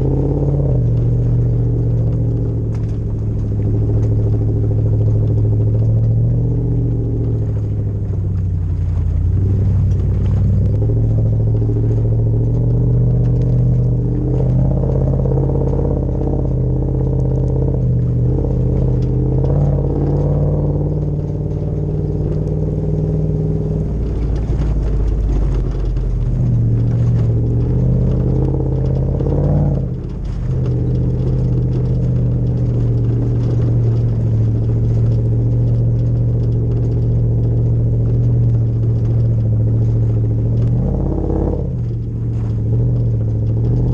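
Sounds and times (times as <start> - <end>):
engine exhaust rumble: 0.0 - 43.9.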